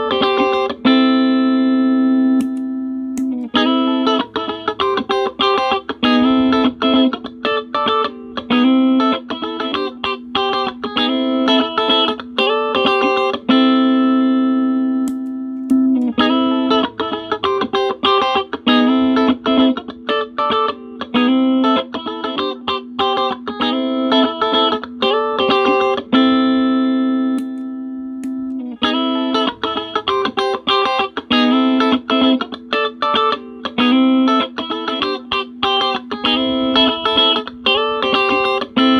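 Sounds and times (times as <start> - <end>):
electric guitar picked notes: 0.0 - 38.9.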